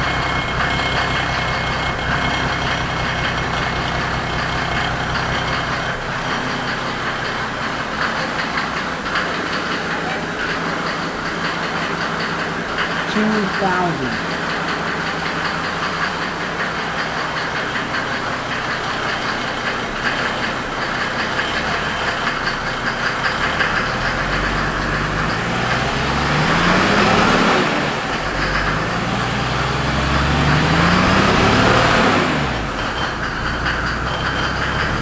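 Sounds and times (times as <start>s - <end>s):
diesel engine idling and revving: 0.0s - 35.0s.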